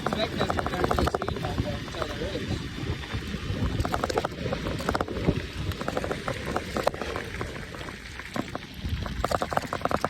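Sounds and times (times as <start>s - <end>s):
e-bike rolling noise: 0.0s - 10.0s
wind buffeting microphone: 0.0s - 10.0s.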